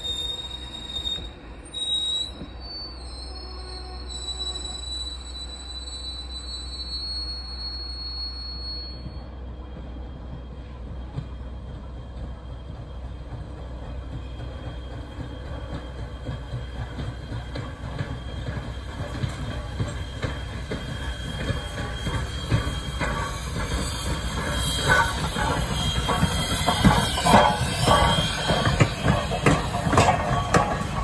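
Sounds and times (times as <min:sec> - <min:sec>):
train wheels squealing: 0:00.0 - 0:31.0
wheels rumbling on track: 0:05.4 - 0:31.0.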